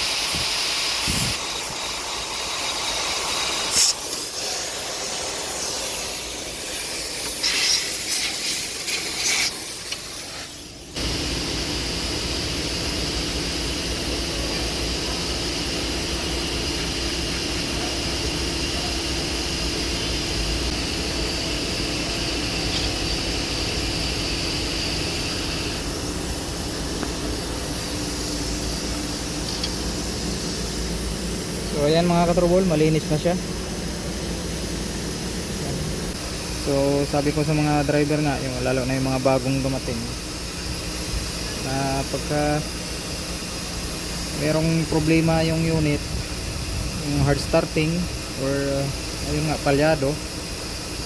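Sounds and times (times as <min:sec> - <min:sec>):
compressed air hissing: 0:00.0 - 0:51.0
steady low hum: 0:00.0 - 0:51.0.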